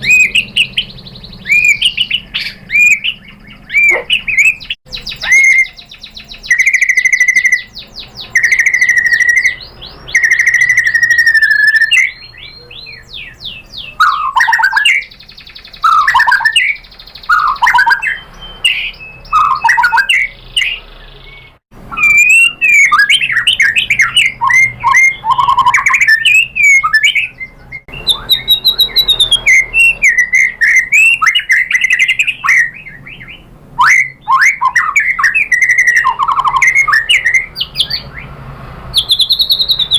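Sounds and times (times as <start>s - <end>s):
bird singing whistles and trills: 0.0s - 38.3s, 39.0s - 39.9s.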